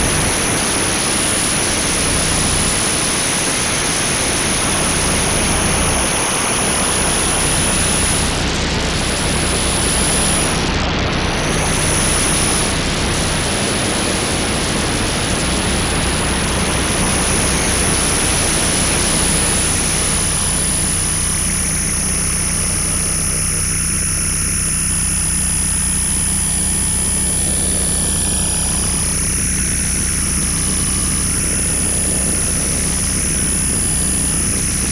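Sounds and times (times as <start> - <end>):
electronic noise hiss: 0.0 - 34.9
low electronic hum: 0.0 - 34.9.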